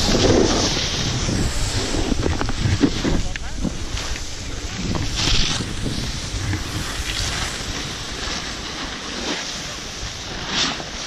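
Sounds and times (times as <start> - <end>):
snow scraping under skis: 0.0 - 11.0
wind buffeting microphone: 0.0 - 11.0.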